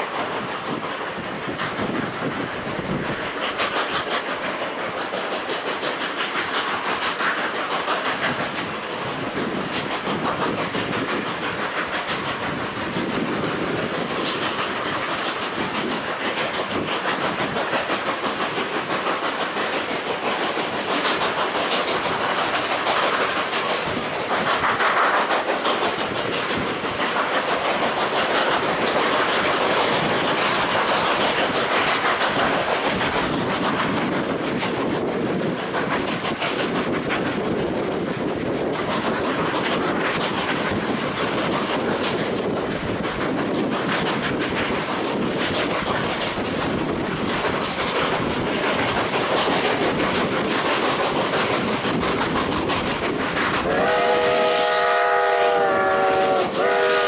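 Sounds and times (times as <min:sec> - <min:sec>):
steam locomotives working: 0:00.0 - 0:57.0
train wheels on rails: 0:00.0 - 0:57.0.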